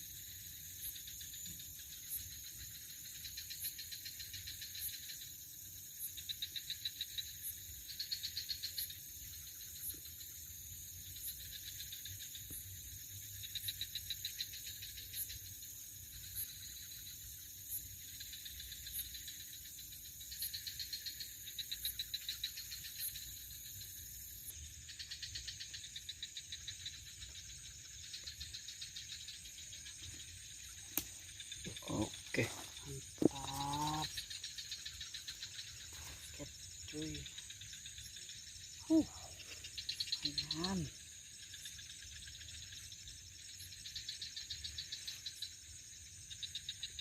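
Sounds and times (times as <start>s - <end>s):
crickets trilling: 0.0s - 47.0s
high-pitched insect hum: 0.0s - 47.0s.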